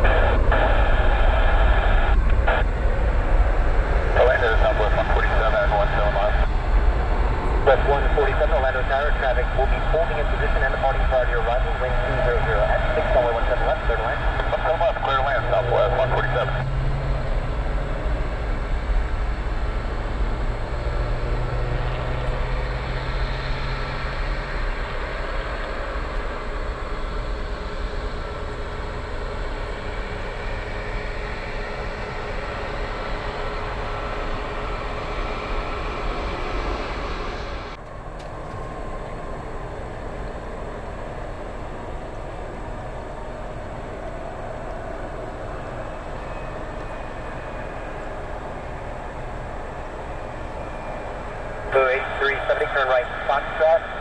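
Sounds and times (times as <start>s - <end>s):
jet engines roaring: 0.0s - 54.0s
steady jet noise: 0.0s - 54.0s.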